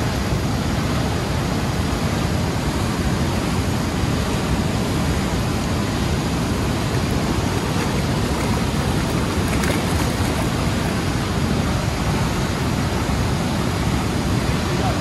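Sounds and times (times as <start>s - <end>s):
whitewater rushing over rocks: 1.8s - 14.8s.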